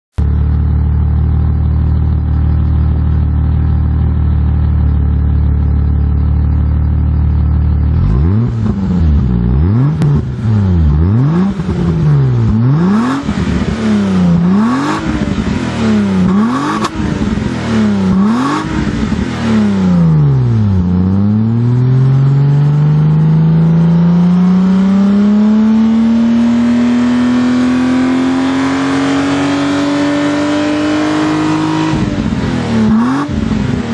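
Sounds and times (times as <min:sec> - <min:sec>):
car engine idling and revving: 0:00.2 - 0:33.9.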